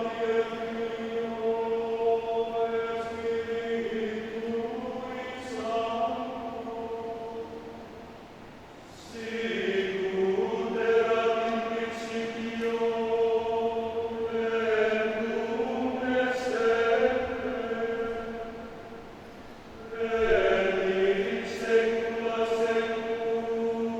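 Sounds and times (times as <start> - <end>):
men's choir singing chords: 0.0 - 23.9.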